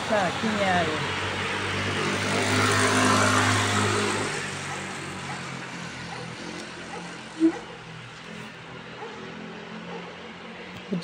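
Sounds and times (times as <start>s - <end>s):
vehicle passing on wet street: 0.0s - 11.0s.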